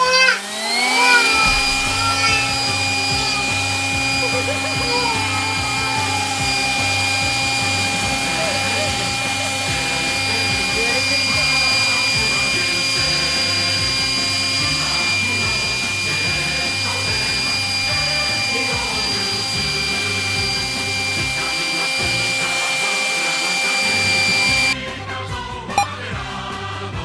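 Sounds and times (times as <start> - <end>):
vacuum cleaner running: 0.0 - 24.8
background music: 1.1 - 27.0.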